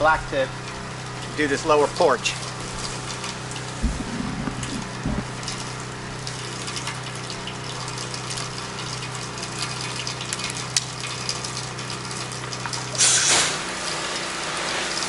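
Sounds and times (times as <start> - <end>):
pressure washer running: 0.5 - 15.0.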